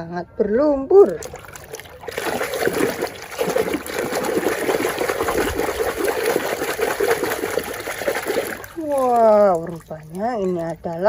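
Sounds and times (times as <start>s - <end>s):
water splashing and trickling: 1.0s - 11.0s.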